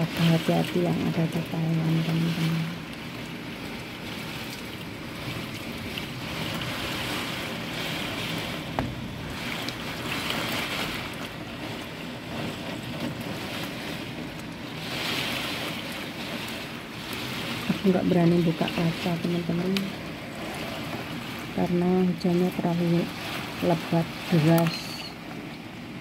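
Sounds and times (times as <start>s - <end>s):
heavy rain on window: 0.0s - 26.0s.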